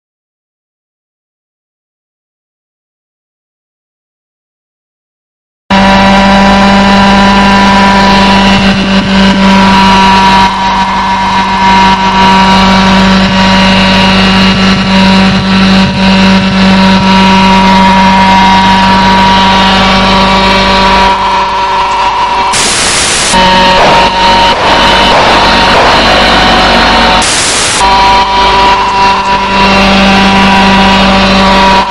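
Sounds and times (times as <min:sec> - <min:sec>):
motor drone: 0:05.7 - 0:31.9.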